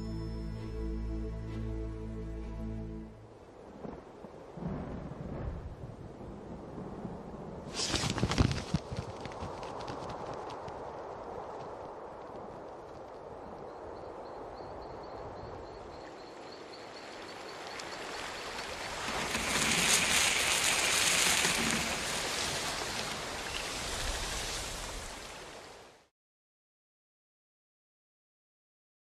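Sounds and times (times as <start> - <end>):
wind-like rustling: 1.5 - 26.1.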